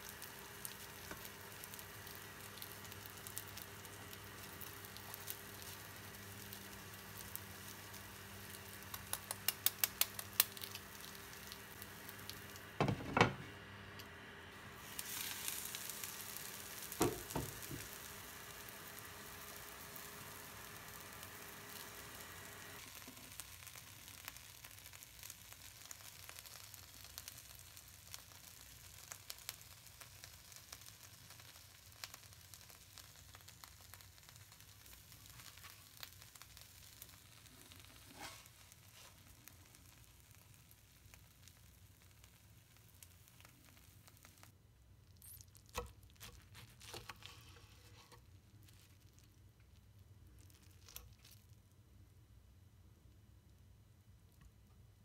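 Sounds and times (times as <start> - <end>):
food sizzling in a frying pan: 0.0 - 48.1.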